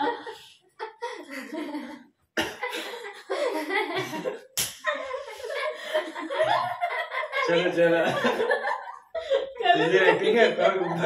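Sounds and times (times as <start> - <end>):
young people laughing: 0.0 - 11.0.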